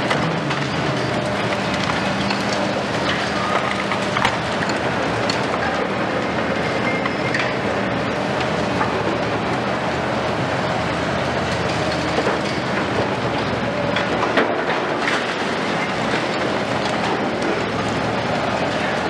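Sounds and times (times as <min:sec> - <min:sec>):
excavators running: 0:00.0 - 0:19.0.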